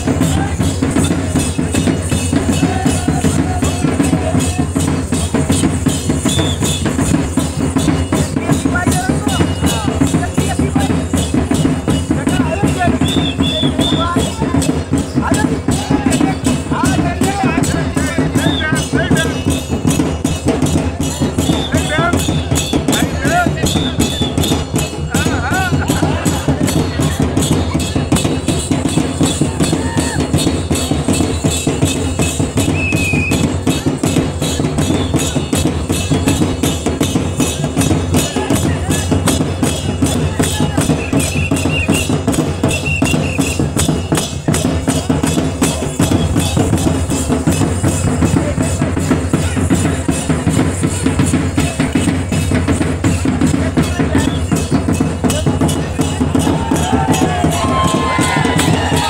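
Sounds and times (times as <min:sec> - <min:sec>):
drum and hand percussion: 0:00.0 - 0:59.0
folk dance music: 0:00.0 - 0:59.0.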